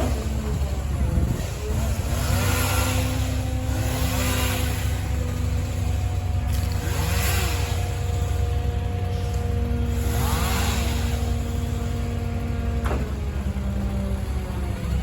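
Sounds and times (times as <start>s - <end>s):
large engine humming: 0.0s - 15.0s.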